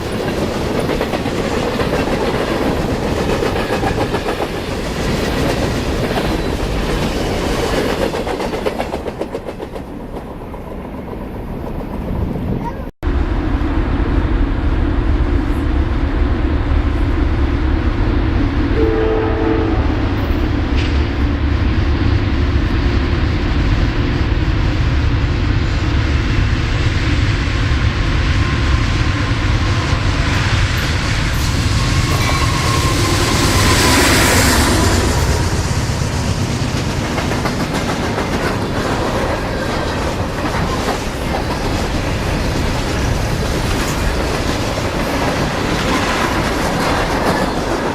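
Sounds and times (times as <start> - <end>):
train rumbling past: 0.0 - 47.9.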